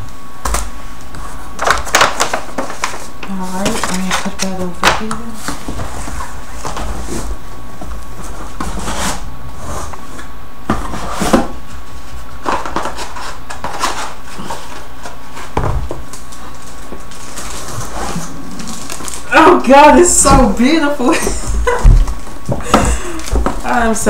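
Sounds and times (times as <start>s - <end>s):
background hum: 0.0s - 24.0s
cardboard and paper rustling: 0.4s - 24.0s.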